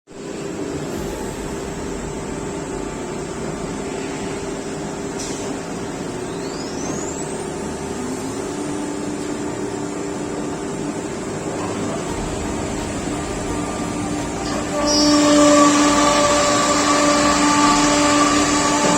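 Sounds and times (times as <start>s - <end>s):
cnc router humming and hissing: 0.2s - 18.9s.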